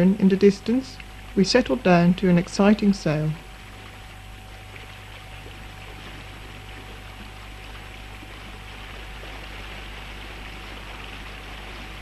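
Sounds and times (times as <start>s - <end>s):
low steady hum: 0.0s - 12.0s
water rushing past hulls: 0.0s - 12.0s.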